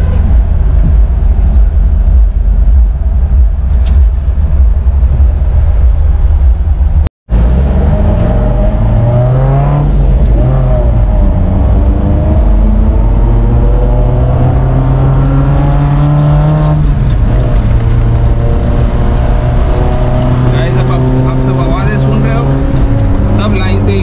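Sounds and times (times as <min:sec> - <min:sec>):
engine revving: 0:00.0 - 0:24.0
off-road engines rumbling: 0:00.0 - 0:24.0.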